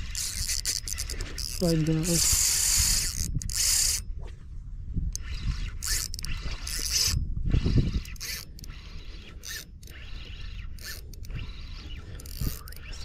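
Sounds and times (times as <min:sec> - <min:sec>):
fishing reel whirring and clicking: 0:00.0 - 0:04.1, 0:05.0 - 0:13.0.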